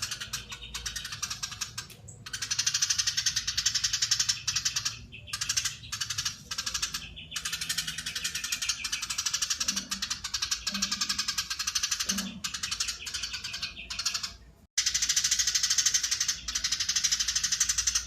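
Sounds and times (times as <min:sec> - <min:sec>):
sparrow rapid chattering call: 0:00.0 - 0:18.0.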